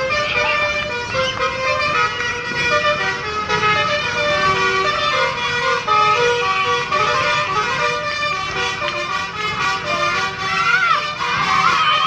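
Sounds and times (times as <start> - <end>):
bus engine: 0.0 - 12.0
bus horn playing multi-tone melody: 0.0 - 12.0
street noise: 0.0 - 12.0.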